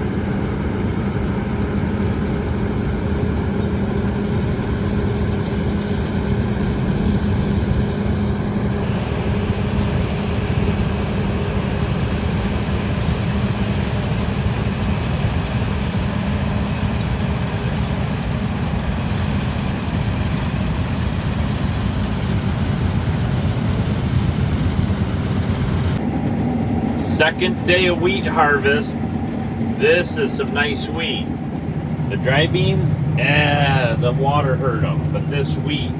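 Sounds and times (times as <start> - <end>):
combine harvester drone: 0.0 - 35.9.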